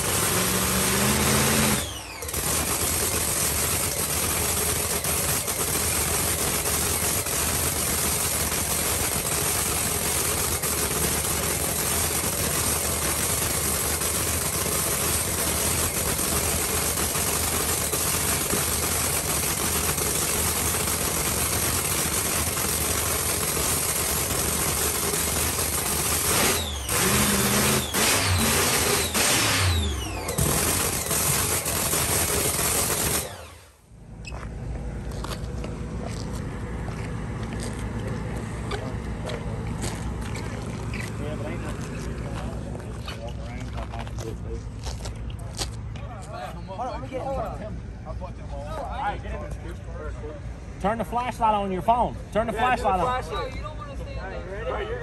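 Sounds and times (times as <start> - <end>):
racing engine idling and revving: 0.0 - 46.0.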